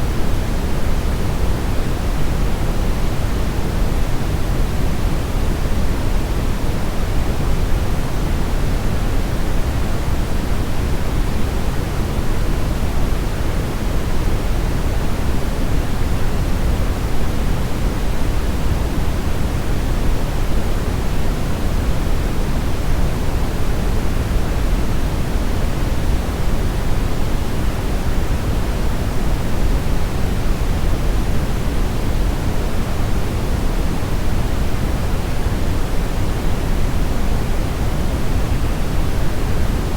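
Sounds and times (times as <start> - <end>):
deep steady brown noise hiss: 0.0 - 39.9.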